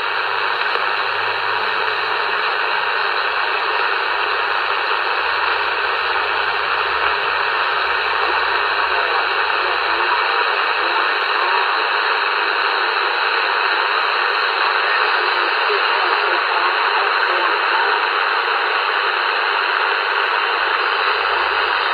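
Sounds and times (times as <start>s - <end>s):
radio static hiss: 0.0s - 21.9s.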